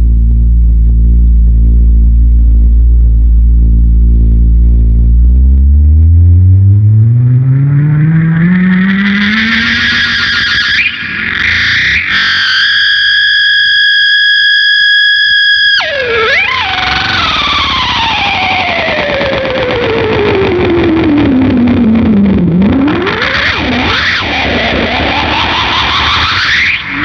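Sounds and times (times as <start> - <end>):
fuzz electric guitar gliding tones: 0.0 - 27.0.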